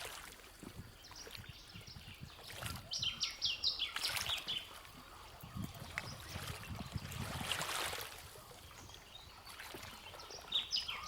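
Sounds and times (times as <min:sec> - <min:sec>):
boat noise: 0:00.0 - 0:11.0
faint water: 0:00.0 - 0:11.0.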